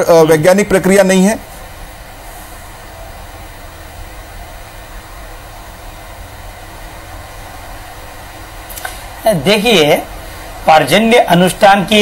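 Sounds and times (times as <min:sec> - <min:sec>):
faint hum: 0:00.0 - 0:12.0
steady hiss: 0:00.0 - 0:12.0.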